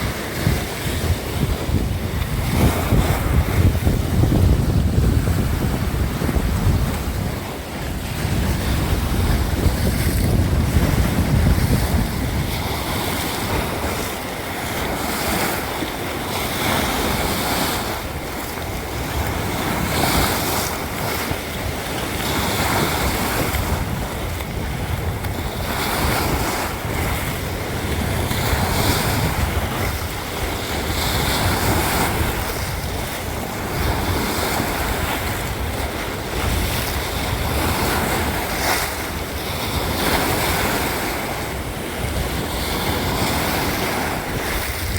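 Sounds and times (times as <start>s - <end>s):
sea waves: 0.0s - 44.9s
wind rumbling on microphone: 0.0s - 44.9s.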